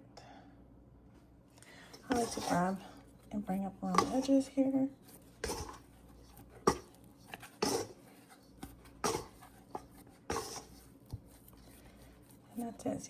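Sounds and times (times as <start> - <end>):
wet dough being folded: 1.8 - 13.0.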